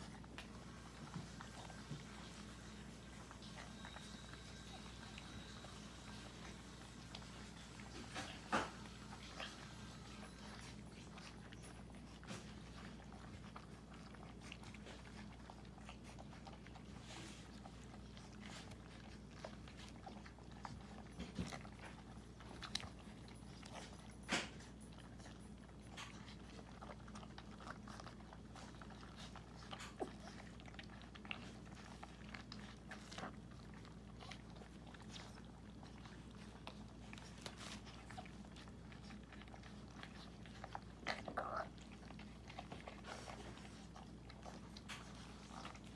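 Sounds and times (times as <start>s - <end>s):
puppies chewing and crunching food: 0.0s - 45.9s.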